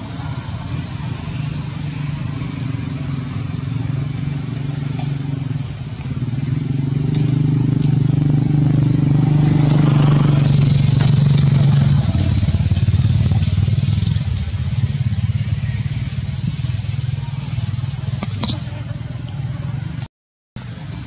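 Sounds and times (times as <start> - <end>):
engine running: 0.0 - 20.1
high-pitched whine: 0.0 - 21.0.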